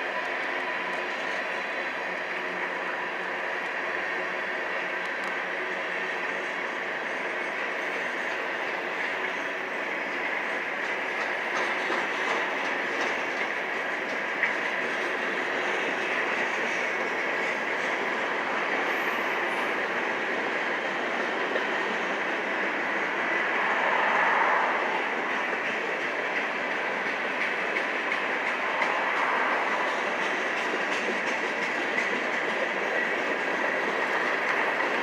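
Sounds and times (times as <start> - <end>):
rail joint clicks: 0.0 - 35.0
train wheels rumbling on rails: 0.0 - 35.0.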